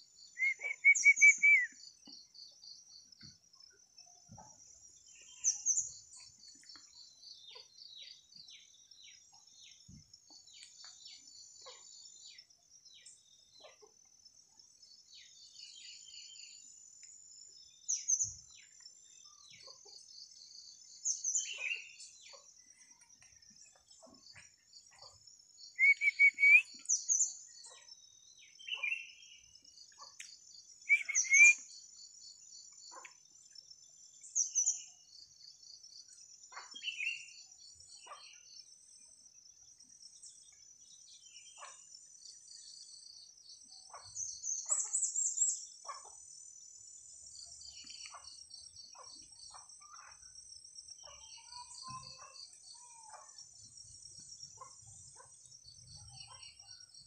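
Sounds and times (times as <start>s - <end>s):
wild birds singing: 0.0s - 57.0s.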